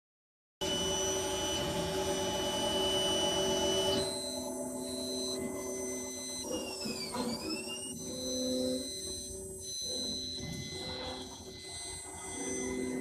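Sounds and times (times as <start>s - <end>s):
stepper motors whining: 0.6s - 13.0s.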